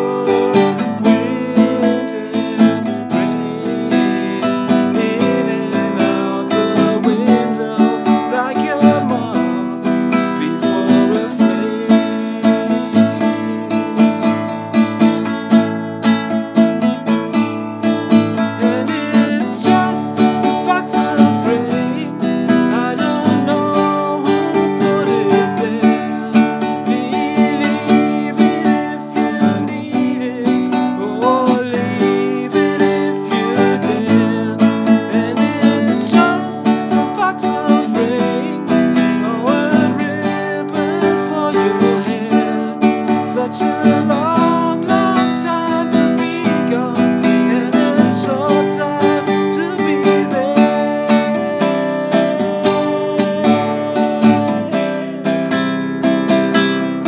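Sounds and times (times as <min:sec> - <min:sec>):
man singing: 0:00.0 - 0:15.8, 0:16.8 - 0:57.0
classical guitar strumming: 0:00.0 - 0:57.0.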